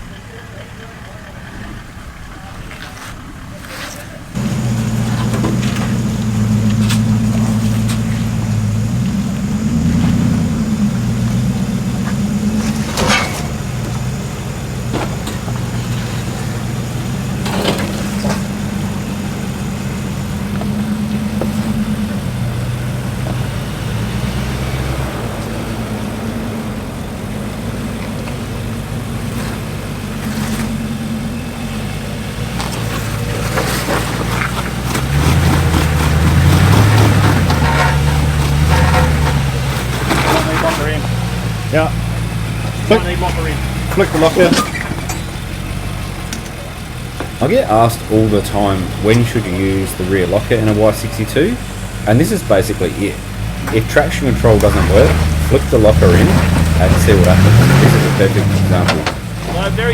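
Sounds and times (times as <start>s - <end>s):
vehicle engine at low revs: 0.0s - 59.9s.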